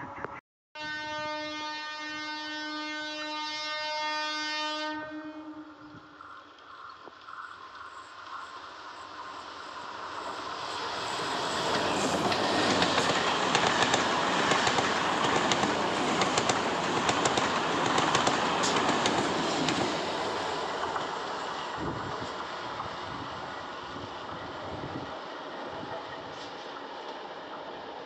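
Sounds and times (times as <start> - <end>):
electric train passing: 3.6 - 28.0.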